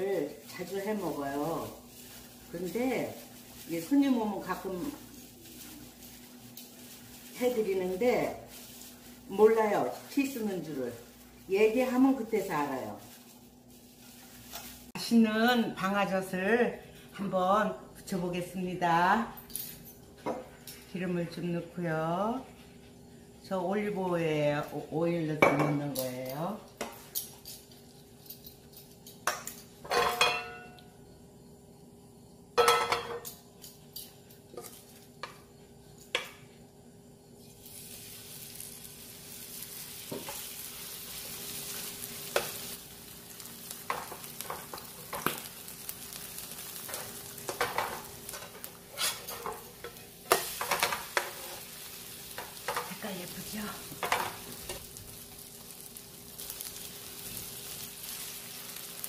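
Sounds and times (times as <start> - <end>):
batter sizzling in pan: 0.0 - 19.2, 19.9 - 59.0.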